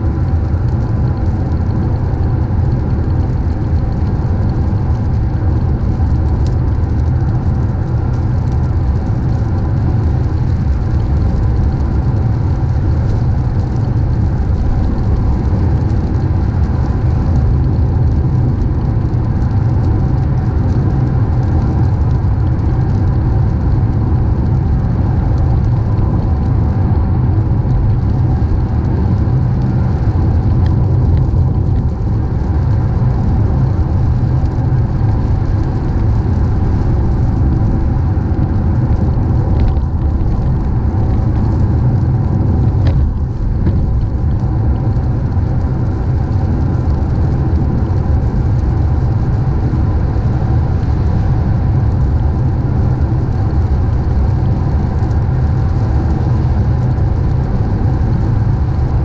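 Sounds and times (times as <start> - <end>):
car road and engine rumble: 0.0 - 52.1, 53.3 - 57.6.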